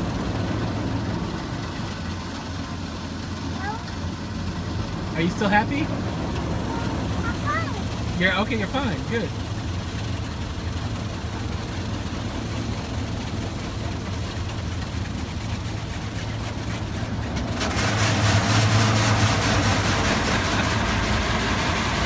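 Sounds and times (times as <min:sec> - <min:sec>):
car engine idling: 0:00.0 - 0:22.0
car wash water spray hissing: 0:04.3 - 0:22.0.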